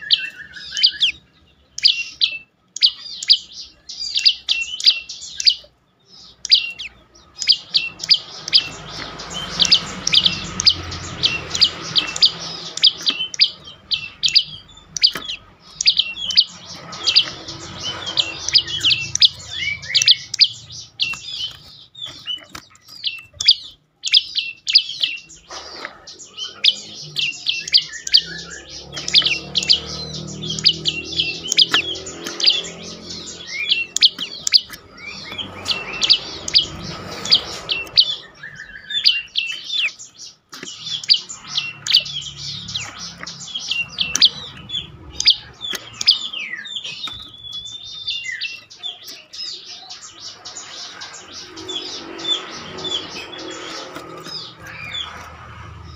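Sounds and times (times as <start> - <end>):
songbird chirping rapidly: 0.0 - 55.9.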